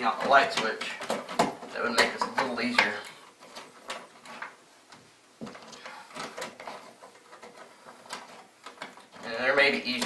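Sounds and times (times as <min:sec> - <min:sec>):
wires clicking and scraping: 0:00.0 - 0:10.0.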